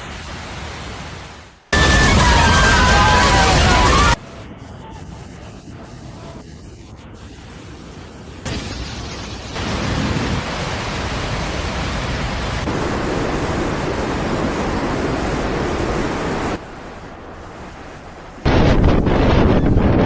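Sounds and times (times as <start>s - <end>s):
loud steady rushing noise: 2.2s - 20.0s.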